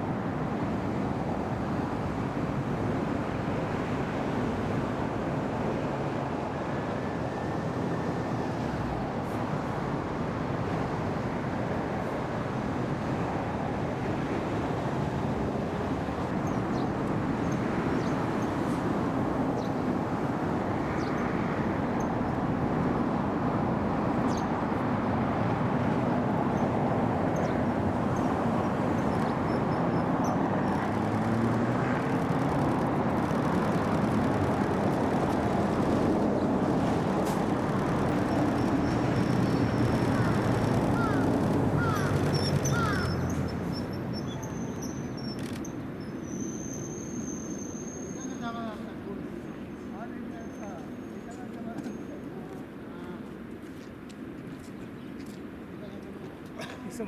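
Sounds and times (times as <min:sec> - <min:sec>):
passing vehicle traffic: 0:00.0 - 0:57.0.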